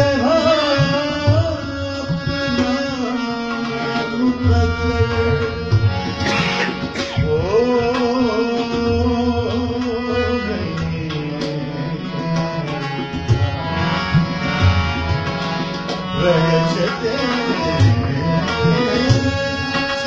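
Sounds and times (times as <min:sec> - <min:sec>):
harmonium: 0:00.0 - 0:20.0.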